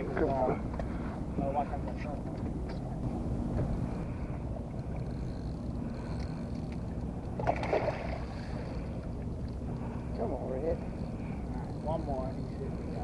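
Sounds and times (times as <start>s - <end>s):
boat rumbling on water: 0.0s - 13.0s.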